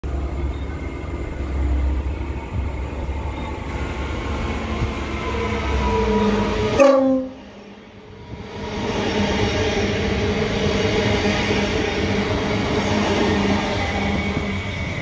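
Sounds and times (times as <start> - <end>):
train wheels and motors rumbling: 0.0 - 15.0
train whine: 0.0 - 15.0.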